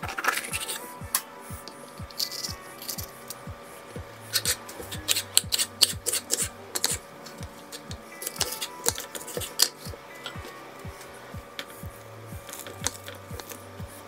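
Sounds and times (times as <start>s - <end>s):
background music with steady beat: 0.0s - 14.0s.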